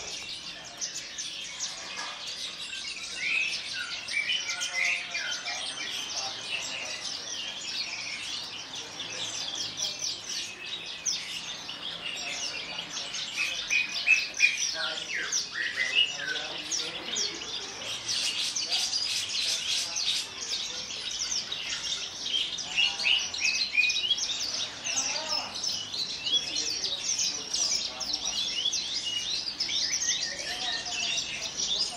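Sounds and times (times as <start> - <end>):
bird singing rapid chirps and trills: 0.0 - 31.9.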